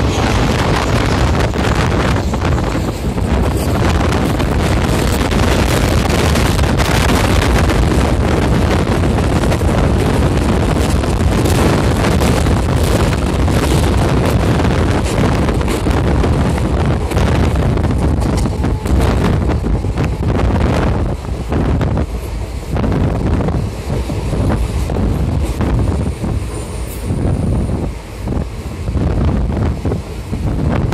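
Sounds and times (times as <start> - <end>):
train coaches rumbling on track: 0.0 - 30.9
wind buffeting microphone: 0.0 - 30.9.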